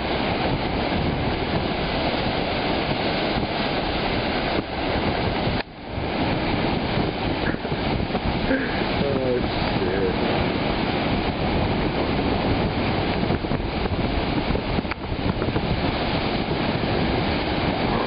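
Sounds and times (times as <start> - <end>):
lake surf breaking: 0.0 - 18.0
wind noise on microphone: 0.0 - 18.0.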